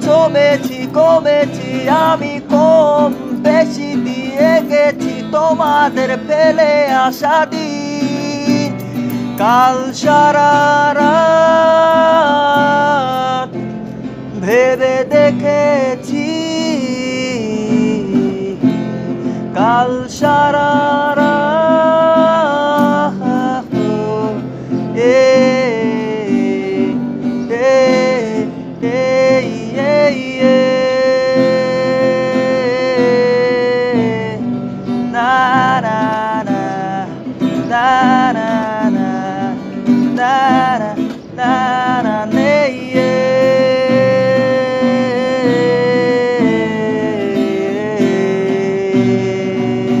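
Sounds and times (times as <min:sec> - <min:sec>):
acoustic guitar: 0:00.0 - 0:50.0
man singing: 0:00.0 - 0:50.0.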